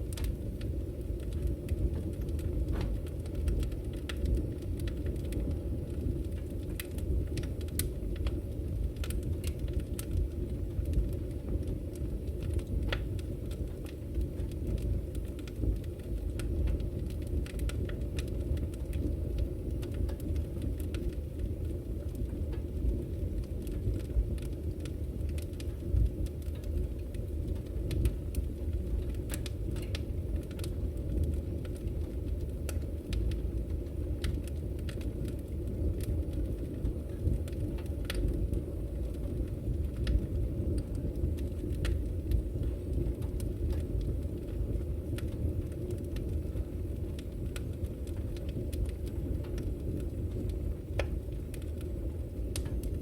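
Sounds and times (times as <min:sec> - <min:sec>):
flames rumbling: 0:00.0 - 0:53.0.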